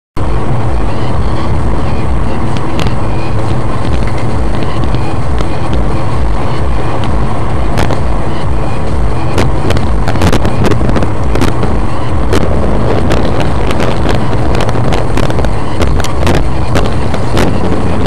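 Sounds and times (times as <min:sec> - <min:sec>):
car road and engine rumble: 0:00.2 - 0:18.0
sharp clicks and rattles: 0:00.3 - 0:18.0.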